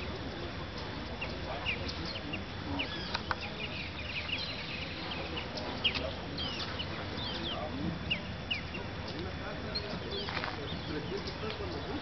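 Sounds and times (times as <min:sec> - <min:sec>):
birds chirping: 0:00.0 - 0:12.0
steady background hiss: 0:00.0 - 0:12.0.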